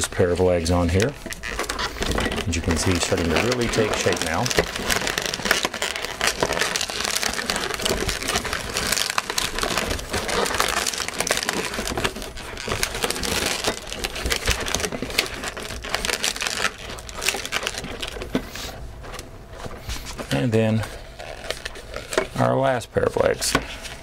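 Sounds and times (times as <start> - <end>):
balloons squeaking and rubbing: 0.0 - 24.0.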